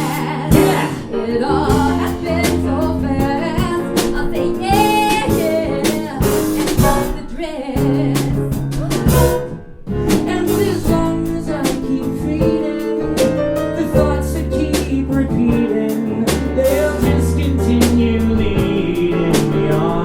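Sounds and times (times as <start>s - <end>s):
drum and cymbal hits: 0.0s - 7.2s, 7.8s - 20.0s
live band playing show tune: 0.0s - 7.2s, 7.8s - 20.0s
piano chords: 0.0s - 20.0s.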